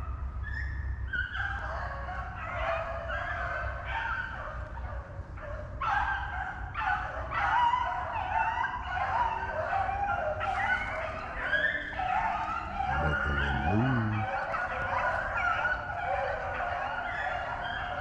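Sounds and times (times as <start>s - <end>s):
hounds baying and yelping: 0.0s - 18.0s.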